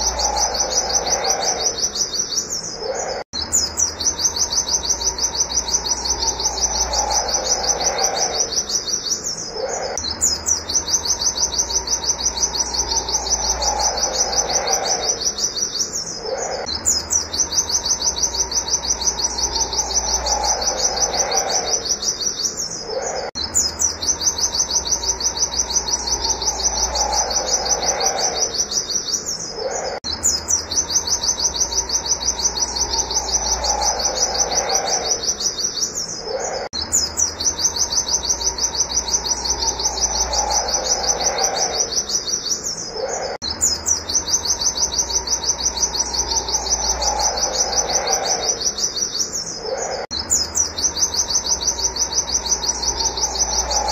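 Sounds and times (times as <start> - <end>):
bird rapid high chirps: 0.0 - 53.9.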